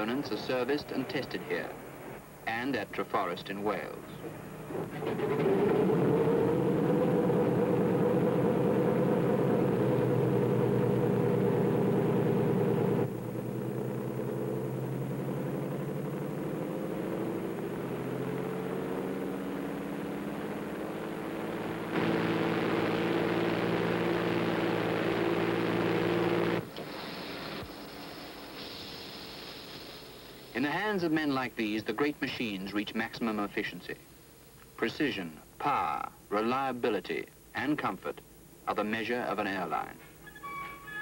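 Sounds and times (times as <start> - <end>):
aircraft piston engine droning: 0.0 - 34.4.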